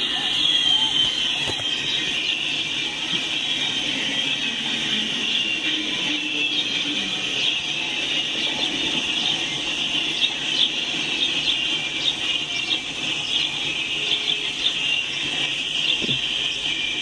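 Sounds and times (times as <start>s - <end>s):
train wheels rumbling on rails: 0.0s - 17.0s
wheel squeal: 0.0s - 17.0s.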